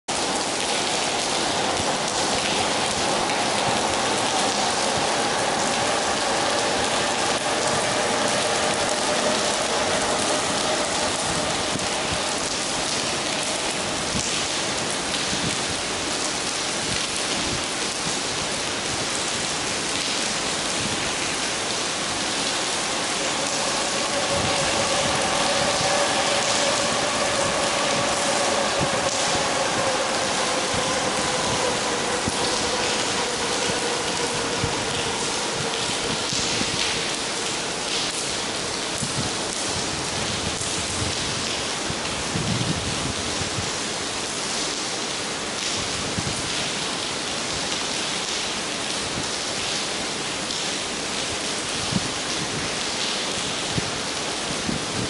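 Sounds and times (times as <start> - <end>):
rain on wet pavement: 0.1 - 55.0.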